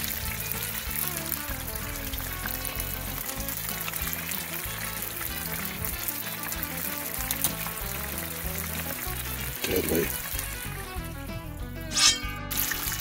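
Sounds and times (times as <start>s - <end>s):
background music with bass line: 0.0s - 13.0s
chicken deep-frying in oil: 0.0s - 13.0s.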